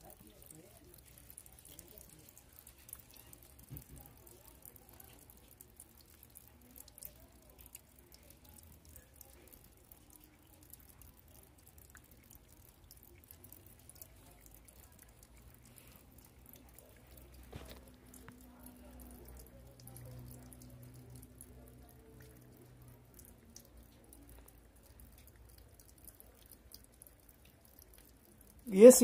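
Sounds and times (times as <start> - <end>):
cat lapping water: 0.0 - 29.0.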